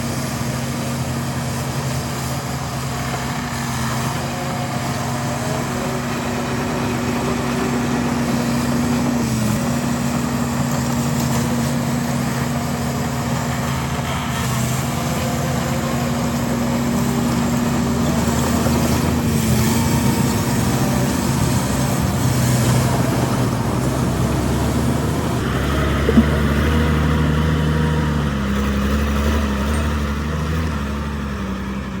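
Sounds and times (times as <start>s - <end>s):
deeper engine hum: 0.0s - 32.0s
heavy machinery diesel engines: 0.0s - 32.0s.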